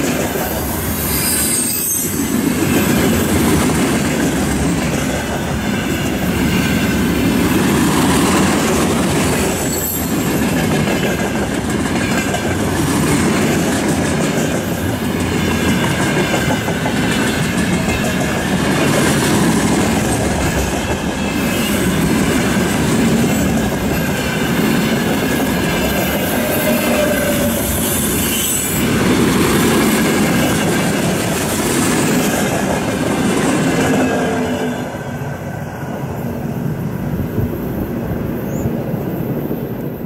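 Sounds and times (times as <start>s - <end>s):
steel wheels clattering on rail: 0.0s - 35.4s
freight train rolling past: 0.0s - 40.0s.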